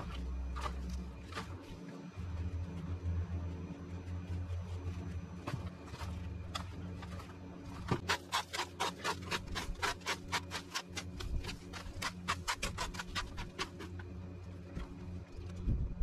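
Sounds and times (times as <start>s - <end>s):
rake scraping over soil: 0.0s - 15.5s.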